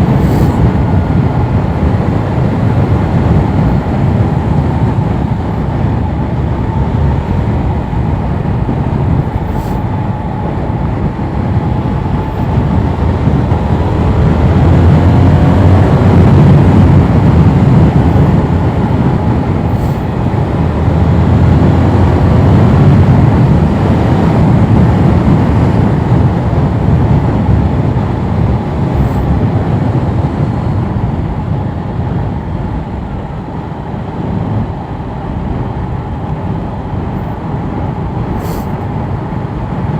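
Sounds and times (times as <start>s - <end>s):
wind rush on helmet microphone: 0.0s - 39.9s.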